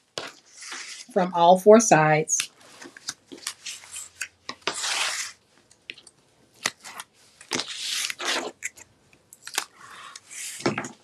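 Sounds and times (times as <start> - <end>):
tape liner peeling and crinkling: 0.2 - 1.1, 2.4 - 10.6.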